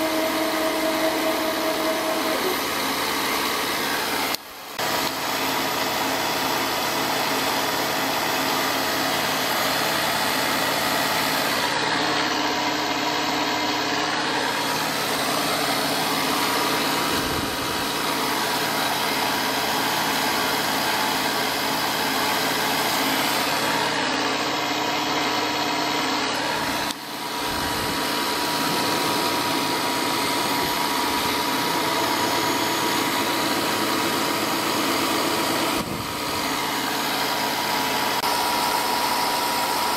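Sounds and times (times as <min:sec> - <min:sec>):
milling machine running: 0:00.0 - 0:39.9.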